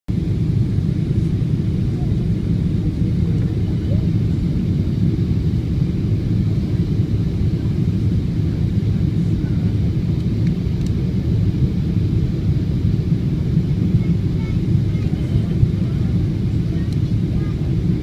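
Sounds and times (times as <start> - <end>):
airliner cabin engine rumble: 0.1 - 18.0.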